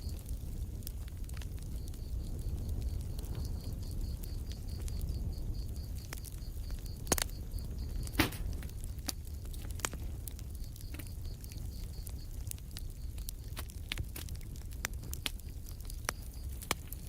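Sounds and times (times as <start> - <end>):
fire pops: 0.0 - 17.0
wood fire crackling: 0.0 - 17.0.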